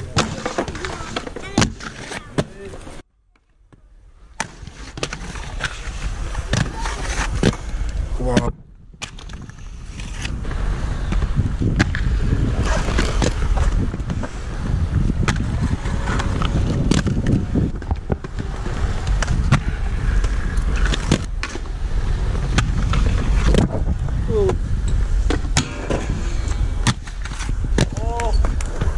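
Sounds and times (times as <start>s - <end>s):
skates rolling over concrete: 0.0s - 3.0s, 3.6s - 28.9s
skates clacking and grinding ledges: 0.0s - 28.9s.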